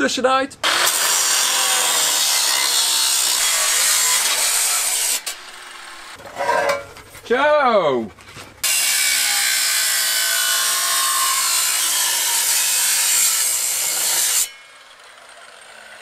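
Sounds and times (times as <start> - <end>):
angle grinder cutting steel: 0.6 - 6.9, 8.6 - 16.0.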